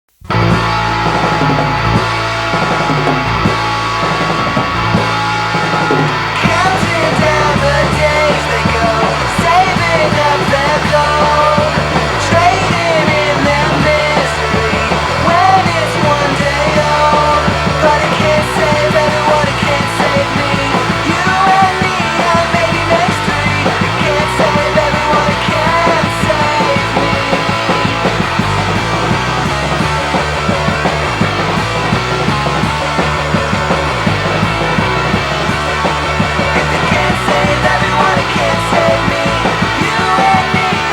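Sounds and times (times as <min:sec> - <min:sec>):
rock song playing: 0:00.2 - 0:40.9.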